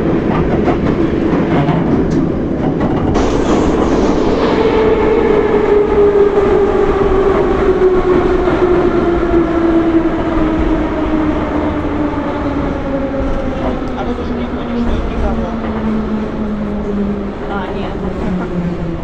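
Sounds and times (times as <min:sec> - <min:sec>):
wheel and rail rumble: 0:00.0 - 0:19.0.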